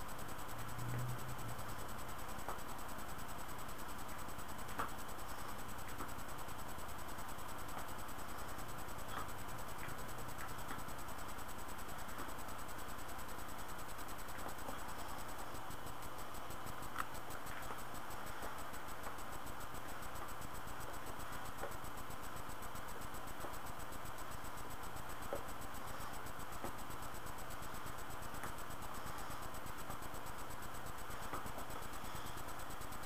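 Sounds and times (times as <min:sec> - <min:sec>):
microphone hiss: 0:00.0 - 0:33.0.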